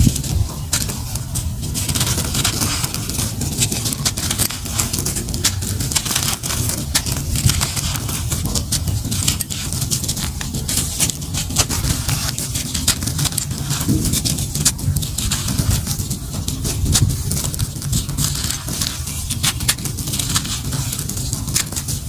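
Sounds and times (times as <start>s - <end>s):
charcoal crumbling by hand: 0.0s - 22.0s
steady low rumble: 0.0s - 22.0s.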